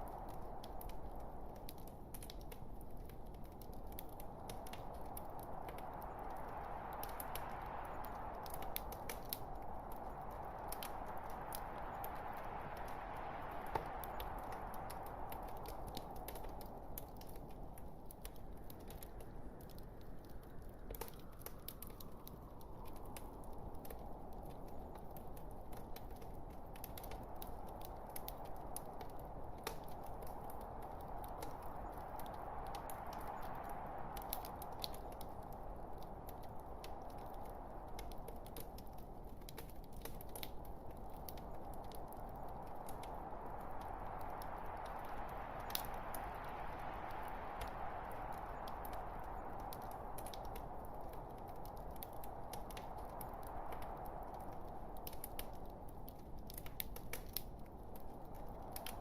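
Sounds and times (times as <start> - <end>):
log fire crackling: 0.0 - 59.0.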